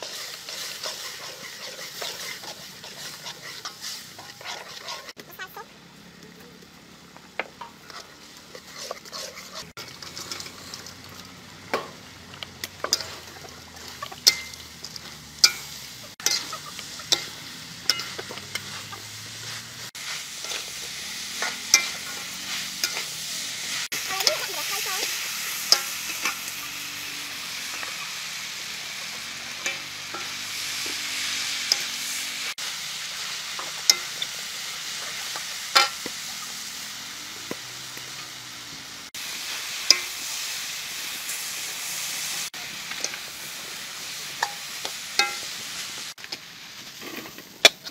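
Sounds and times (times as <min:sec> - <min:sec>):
metal spatula scraping a wok: 0:00.0 - 0:05.2, 0:07.5 - 0:37.2, 0:39.2 - 0:46.2, 0:46.8 - 0:47.9
food sizzling in a wok: 0:00.0 - 0:47.9.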